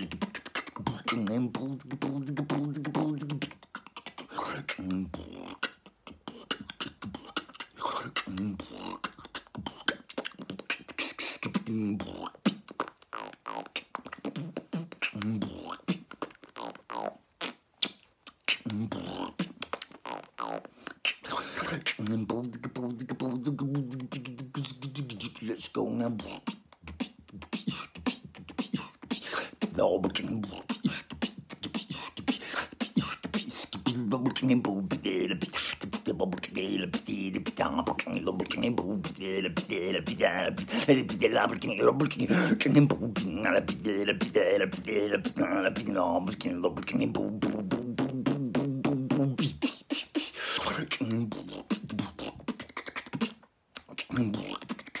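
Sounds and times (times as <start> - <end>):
man beatboxing: 0.0 - 55.0.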